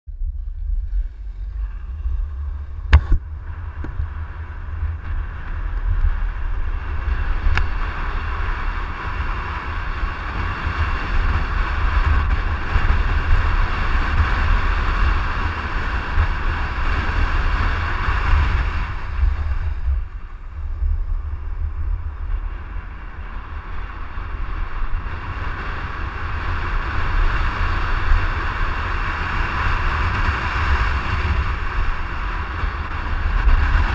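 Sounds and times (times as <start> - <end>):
skate wheels rolling on asphalt: 0.1 - 33.9
wind buffeting microphone: 0.1 - 33.9.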